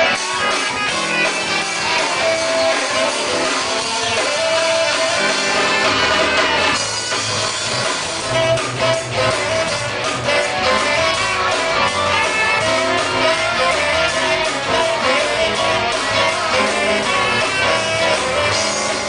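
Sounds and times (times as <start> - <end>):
drum kit: 0.0 - 19.0
electric guitar strumming: 0.0 - 19.0.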